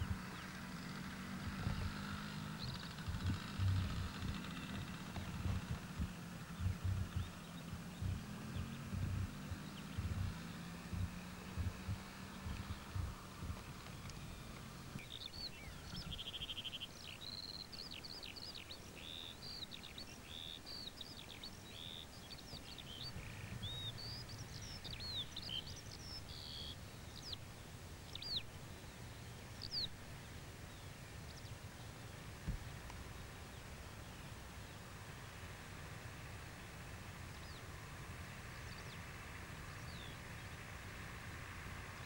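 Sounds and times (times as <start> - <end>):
faint low rumble: 0.0 - 42.0
songbird singing: 0.0 - 42.0
steady outdoor hiss: 0.0 - 42.0.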